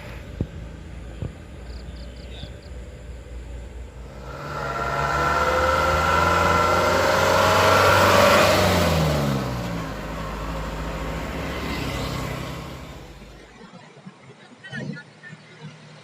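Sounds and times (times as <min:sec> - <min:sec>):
truck driving past: 0:00.0 - 0:13.5.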